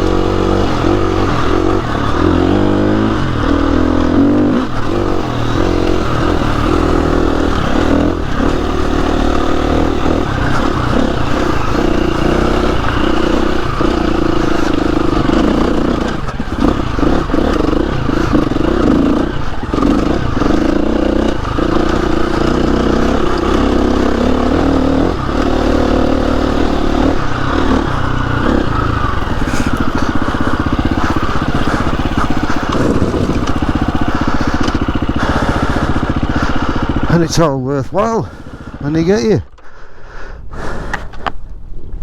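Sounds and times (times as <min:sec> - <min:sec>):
motorcycle engine revving: 0:00.0 - 0:39.6.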